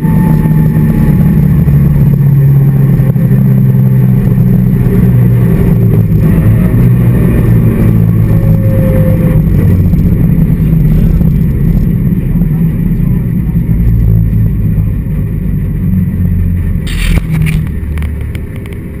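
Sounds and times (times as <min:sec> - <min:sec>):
car engine at low revs: 0:00.0 - 0:19.0.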